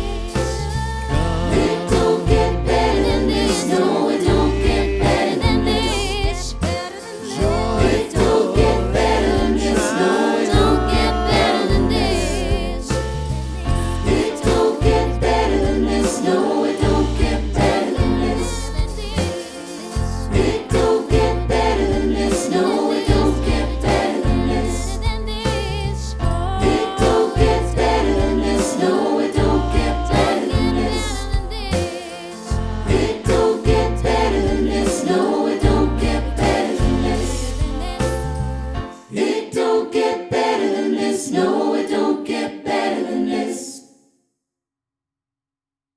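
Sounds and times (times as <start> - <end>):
instrumental backing with bass line: 0.0 - 38.9
choir singing: 0.0 - 44.0.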